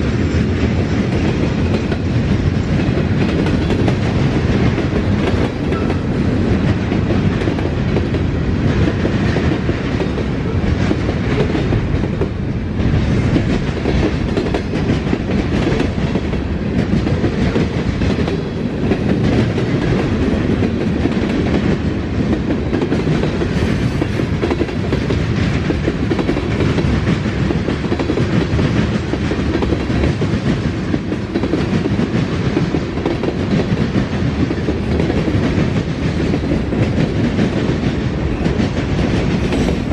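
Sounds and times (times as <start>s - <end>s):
train cars rumbling past: 0.0s - 39.9s
wheels clacking over rails: 0.3s - 12.4s, 13.2s - 39.9s.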